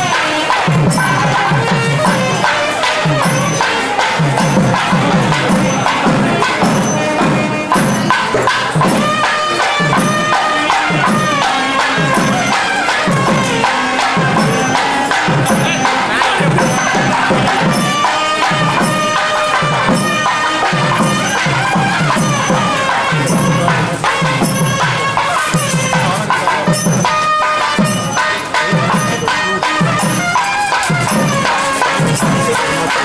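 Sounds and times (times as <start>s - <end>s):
drum strokes: 0.0s - 33.0s
reedy wind instrument melody: 0.0s - 33.0s.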